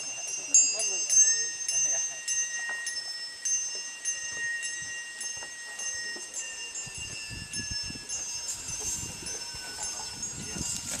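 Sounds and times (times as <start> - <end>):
handbells ringing: 0.0 - 11.0.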